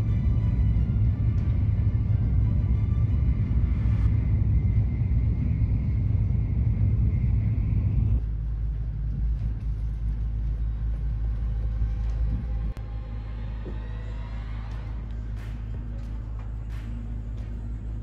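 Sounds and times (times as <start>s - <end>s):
train rumbling in motion: 0.0s - 18.0s.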